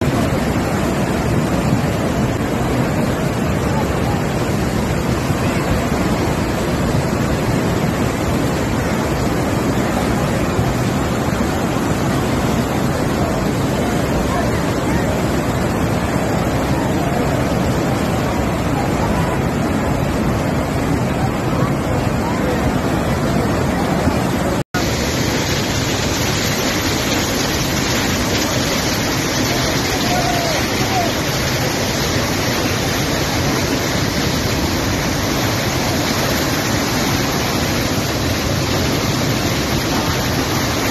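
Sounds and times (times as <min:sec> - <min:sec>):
flood water rushing: 0:00.0 - 0:40.9.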